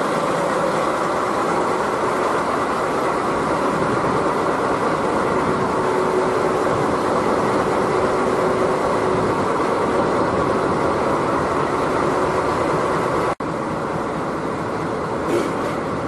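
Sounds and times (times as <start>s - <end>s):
train noise: 0.0s - 16.0s.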